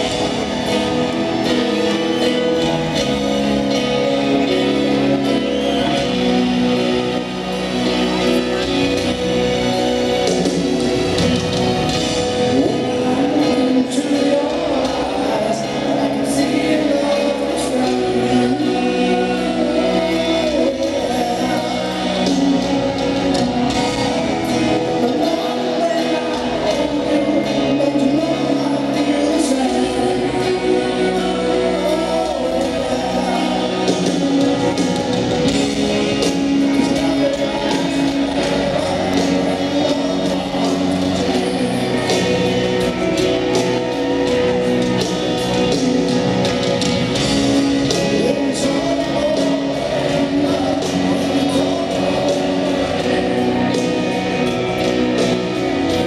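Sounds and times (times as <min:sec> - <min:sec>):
live rock band playing: 0:00.0 - 0:56.0
man singing lead: 0:00.0 - 0:56.0
piano: 0:00.0 - 0:56.0.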